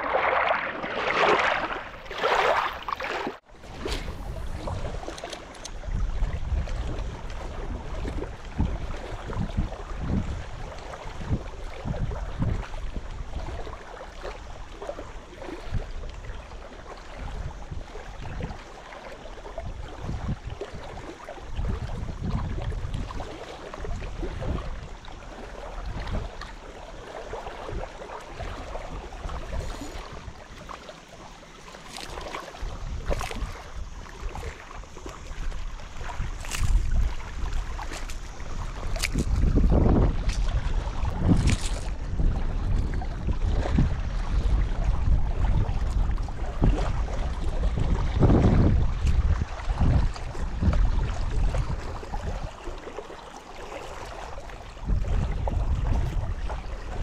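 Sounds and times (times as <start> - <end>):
wind buffeting microphone: 3.4 - 18.7, 19.4 - 30.9, 31.9 - 52.9, 53.8 - 57.0.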